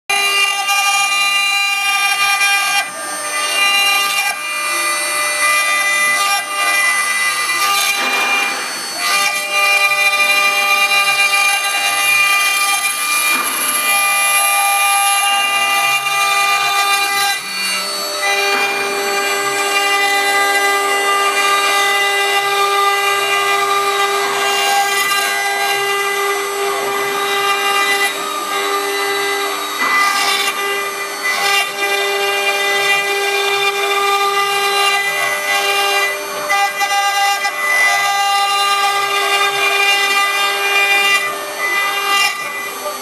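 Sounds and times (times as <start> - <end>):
router spindle whining: 0.1 - 43.0.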